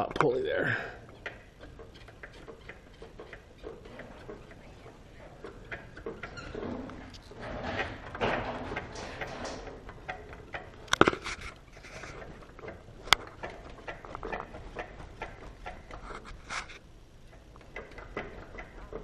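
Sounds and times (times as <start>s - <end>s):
handling clicks and knocks: 1.0s - 16.4s.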